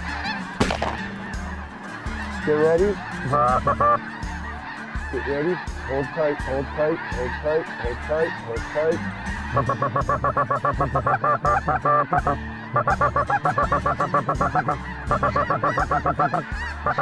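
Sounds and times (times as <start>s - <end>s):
snow goose yelping: 0.0s - 17.0s.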